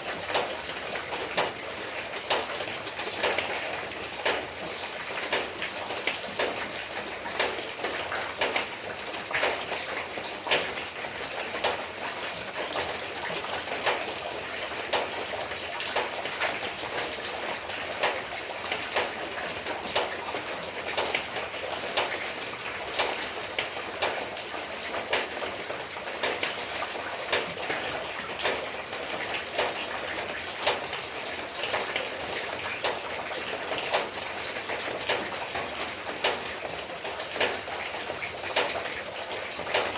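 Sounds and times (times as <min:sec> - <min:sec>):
raindrops striking nearby: 0:00.0 - 0:39.9.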